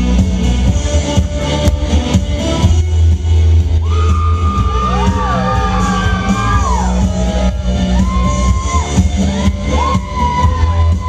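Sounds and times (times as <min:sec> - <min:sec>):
loud stage music with heavy bass: 0:00.0 - 0:11.0.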